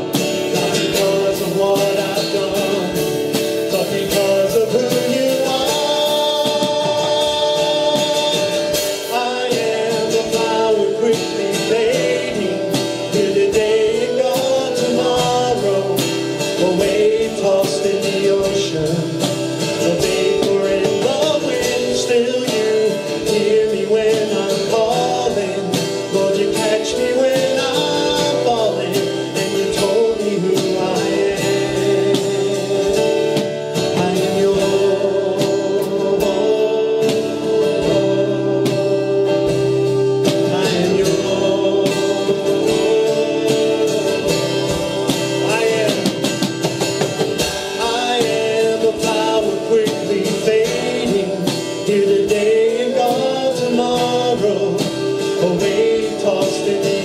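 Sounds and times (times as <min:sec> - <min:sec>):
acoustic guitar: 0:00.0 - 0:57.0
drum kit: 0:00.0 - 0:57.0
man singing: 0:00.0 - 0:57.0.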